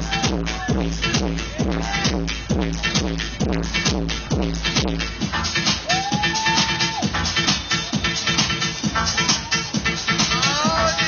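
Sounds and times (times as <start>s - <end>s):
techno kick-drum beat: 0.0s - 11.0s.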